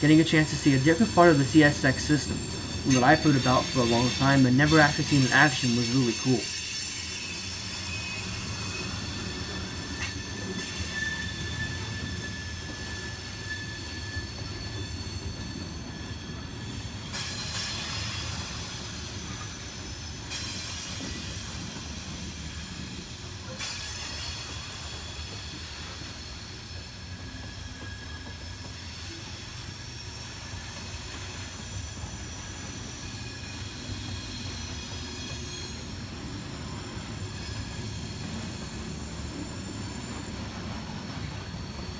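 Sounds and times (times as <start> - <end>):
steel wheels rumbling on rail: 0.0 - 41.9
high-pitched wheel squeal: 0.3 - 41.9.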